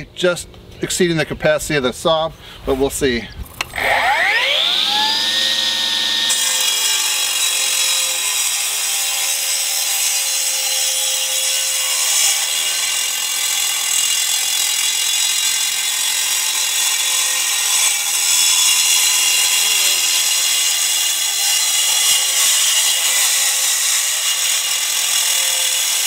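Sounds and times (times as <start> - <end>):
cutoff saw whining: 3.6 - 26.0
saw cutting concrete block: 3.6 - 26.0.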